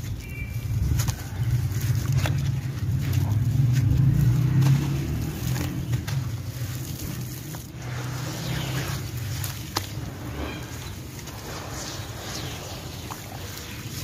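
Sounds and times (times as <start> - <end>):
steady low rumble: 0.0 - 14.0
wet sand squelching by hand: 0.0 - 14.0.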